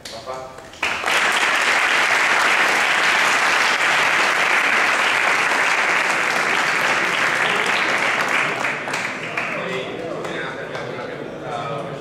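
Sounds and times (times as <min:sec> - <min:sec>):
audience applauding: 0:00.7 - 0:10.5.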